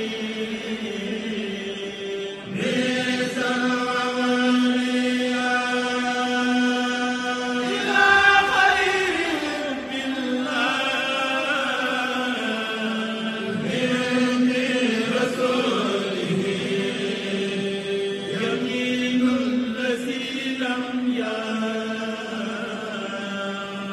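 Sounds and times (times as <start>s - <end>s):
man chanting religious text: 0.0s - 23.9s.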